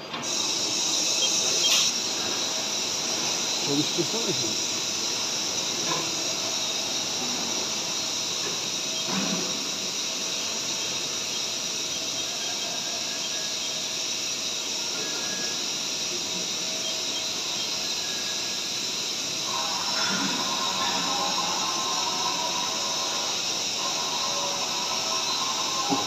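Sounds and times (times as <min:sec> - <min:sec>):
machining center hissing: 0:00.0 - 0:26.0.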